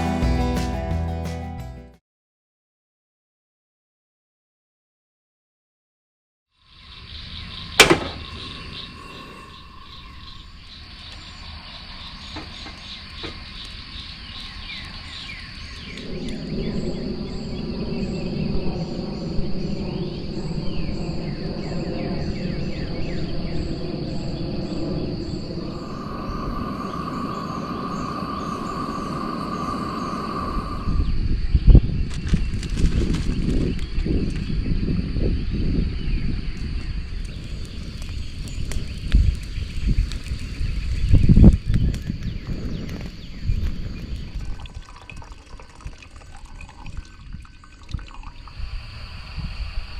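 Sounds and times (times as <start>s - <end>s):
insects chirping: 6.5s - 49.9s
low rumbling noise: 7.5s - 41.7s, 42.6s - 49.9s.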